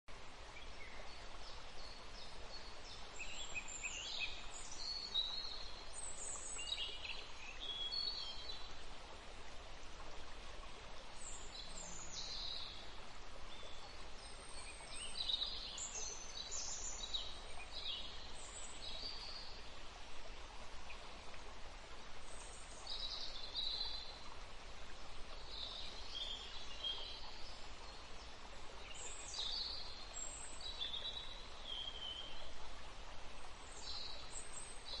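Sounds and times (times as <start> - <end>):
soft steady hiss: 0.1 - 35.0
songbirds chirping: 0.1 - 35.0.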